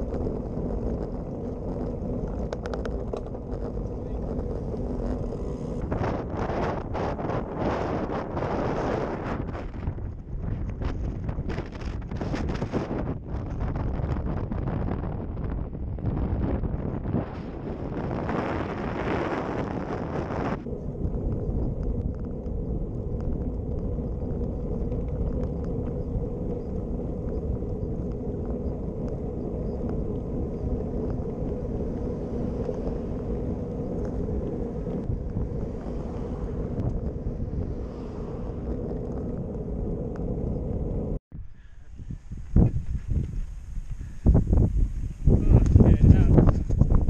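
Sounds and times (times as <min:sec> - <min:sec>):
road noise rumble: 0:00.0 - 0:47.0
wind buffeting microphone: 0:00.0 - 0:47.0.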